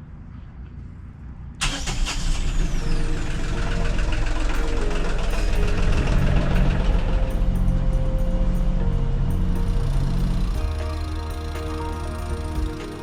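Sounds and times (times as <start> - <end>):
diesel engine starting and running: 1.0 - 13.0.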